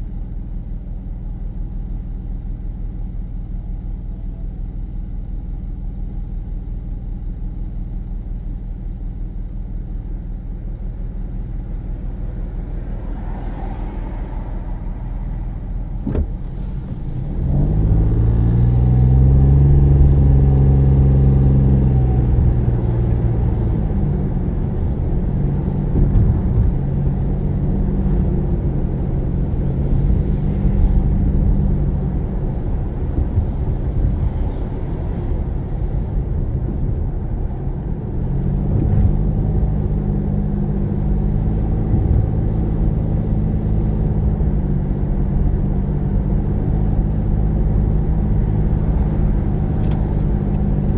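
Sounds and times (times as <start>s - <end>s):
car engine from inside cabin: 0.0s - 50.9s.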